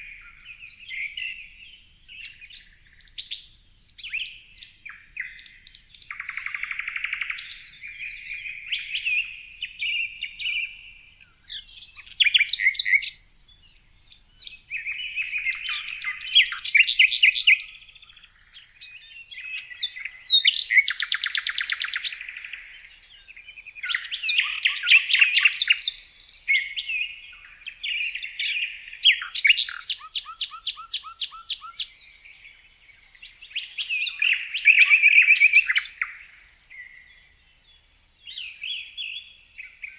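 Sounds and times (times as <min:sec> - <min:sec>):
songbird singing with trills: 0:00.0 - 0:39.9.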